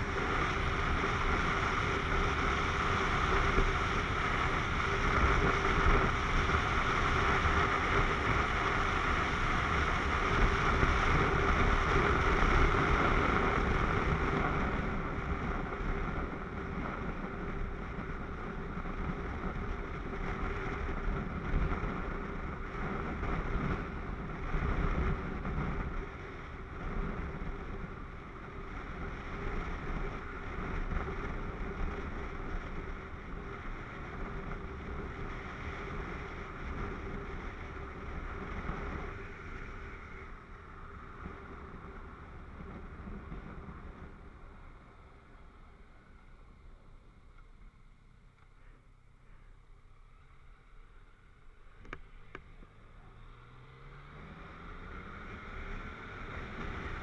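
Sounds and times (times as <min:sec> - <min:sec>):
wind rushing over camera: 0:00.0 - 0:48.0, 0:49.5 - 0:57.0
motorcycle engine running: 0:00.0 - 0:57.0.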